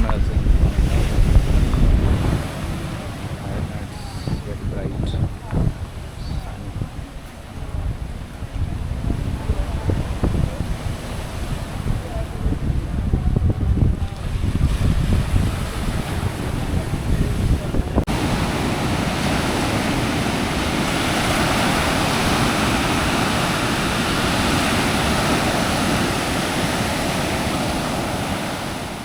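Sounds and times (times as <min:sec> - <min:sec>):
surf washing onto beach: 0:00.0 - 0:29.0
wind buffeting microphone: 0:00.0 - 0:29.0.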